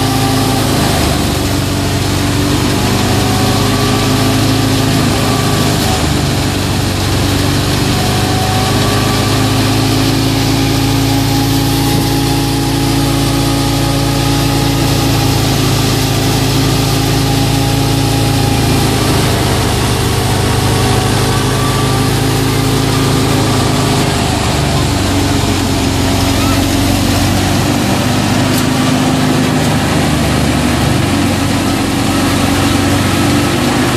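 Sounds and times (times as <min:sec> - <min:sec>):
thresher running: 0:00.0 - 0:33.9
tractor diesel engine: 0:00.0 - 0:33.9.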